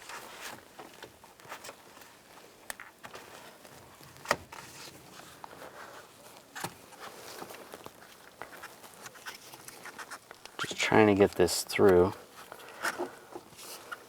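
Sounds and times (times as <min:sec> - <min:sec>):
faint handling noises: 0:00.0 - 0:14.0.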